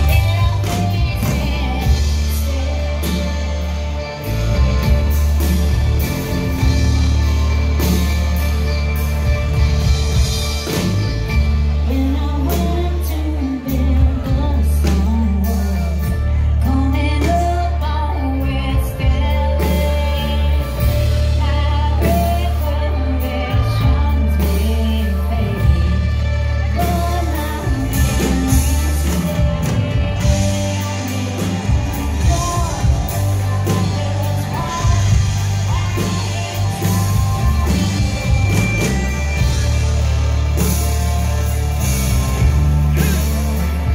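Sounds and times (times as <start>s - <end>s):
electric guitar lead: 0.0s - 43.9s
live country-rock band: 0.0s - 43.9s.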